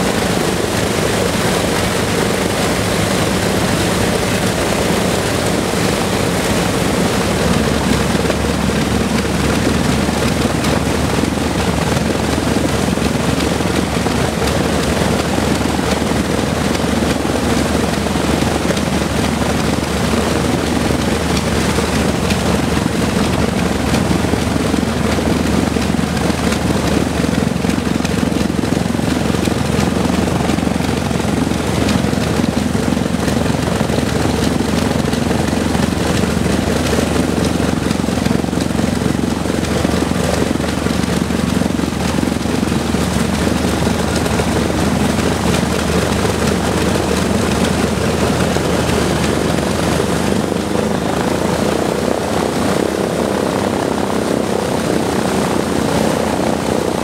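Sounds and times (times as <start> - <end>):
propeller engines idling: 0.0 - 57.0.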